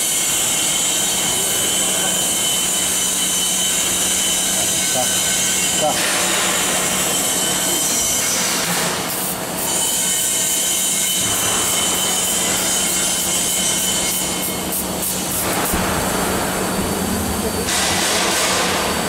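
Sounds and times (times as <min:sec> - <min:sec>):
drum and fan motors humming: 0:00.0 - 0:19.0.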